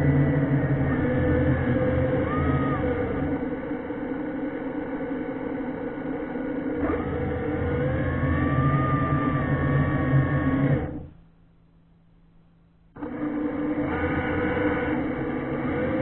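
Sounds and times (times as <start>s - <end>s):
electric thruster motors whining: 0.0s - 11.2s, 13.0s - 16.0s.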